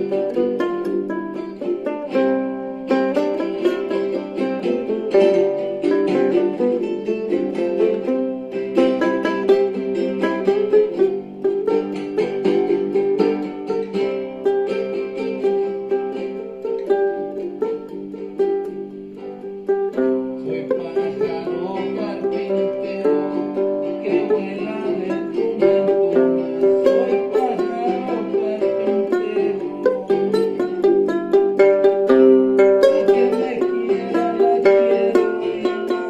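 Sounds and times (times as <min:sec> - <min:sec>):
plucked string instrument: 0:00.0 - 0:36.0.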